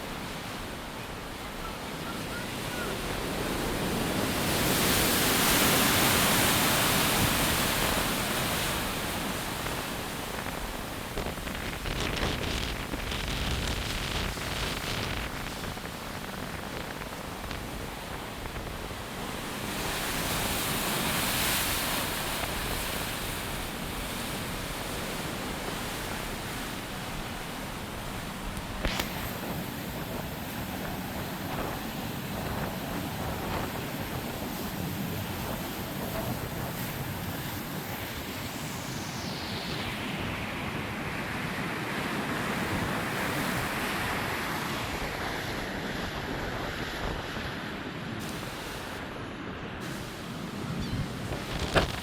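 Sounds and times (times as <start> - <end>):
ocean surf breaking: 0.0 - 52.0
strong wind on microphone: 0.1 - 52.0.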